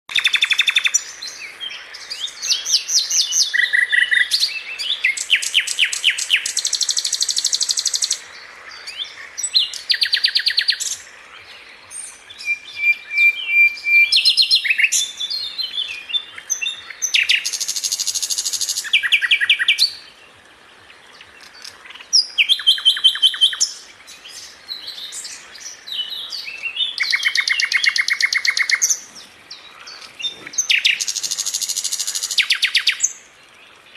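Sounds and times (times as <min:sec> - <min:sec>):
songbirds trilling and chattering: 0:00.1 - 0:33.9.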